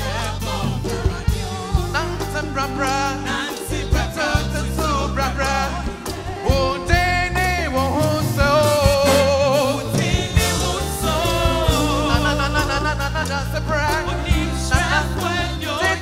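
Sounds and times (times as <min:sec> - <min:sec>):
bass line: 0:00.0 - 0:16.0
drum beats: 0:00.0 - 0:16.0
person singing with vibrato: 0:00.0 - 0:16.0.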